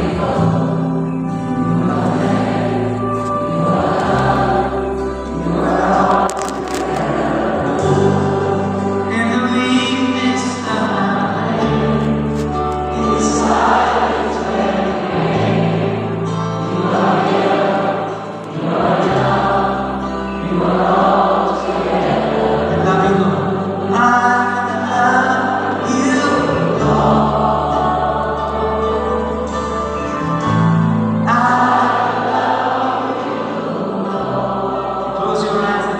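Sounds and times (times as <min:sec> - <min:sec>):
choir singing a slow hymn: 0:00.0 - 0:35.9
held bass notes: 0:00.0 - 0:35.9.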